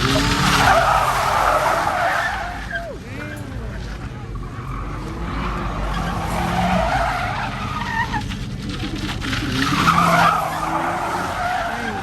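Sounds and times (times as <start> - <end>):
car engine hum: 0.0 - 12.0
tires squealing on pavement: 0.0 - 12.0.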